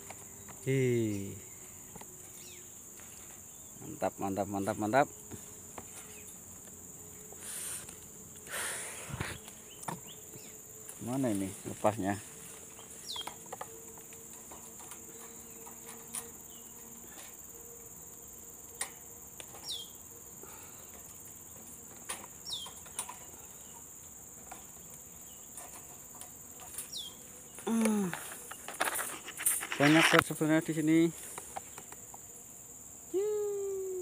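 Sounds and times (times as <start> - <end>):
high-pitched insect drone: 0.0 - 34.0.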